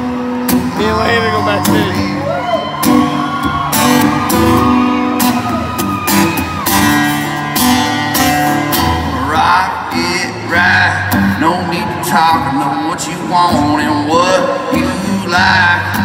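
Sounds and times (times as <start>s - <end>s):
acoustic guitars strumming chords: 0.0s - 16.0s.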